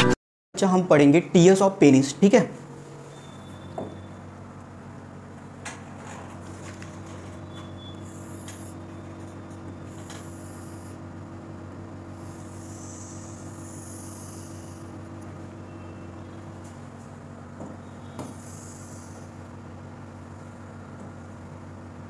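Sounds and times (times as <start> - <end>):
low electrical hum: 0.6 - 22.0.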